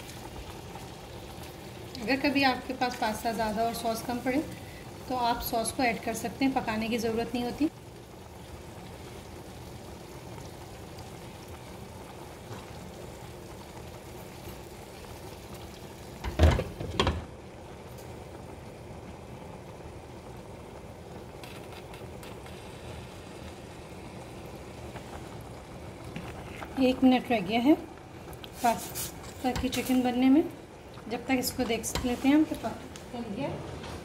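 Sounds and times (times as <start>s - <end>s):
sauce bubbling in a skillet: 0.0s - 33.2s.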